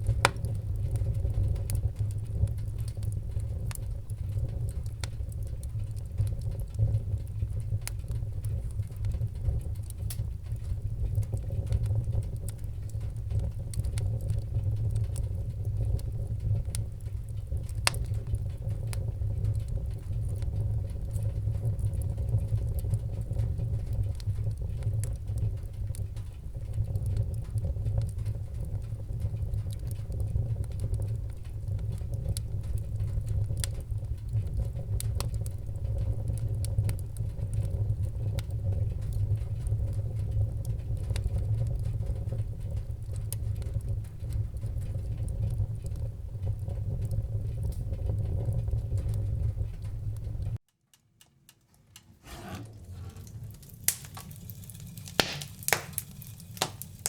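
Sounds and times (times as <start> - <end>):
fire burning in fireplace: 0.0 - 57.0
fire crackling and popping: 0.0 - 57.0.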